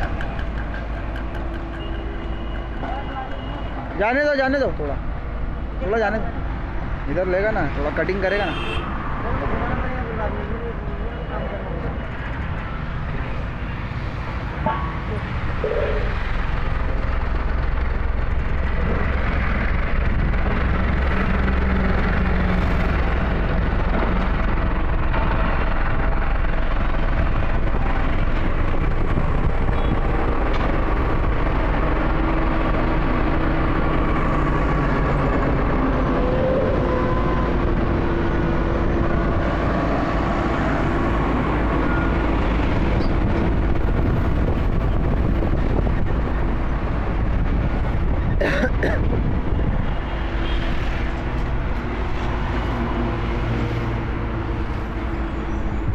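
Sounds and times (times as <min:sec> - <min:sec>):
road roller diesel engine rumbling: 0:00.0 - 0:55.9.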